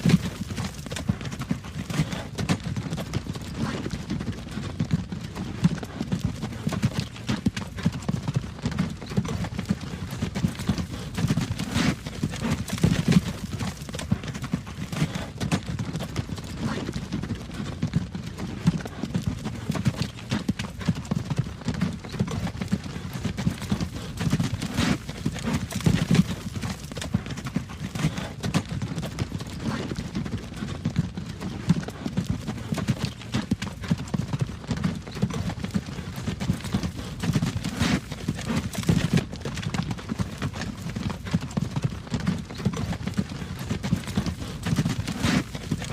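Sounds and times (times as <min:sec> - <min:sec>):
hooves clip-clopping: 0:00.0 - 0:45.9.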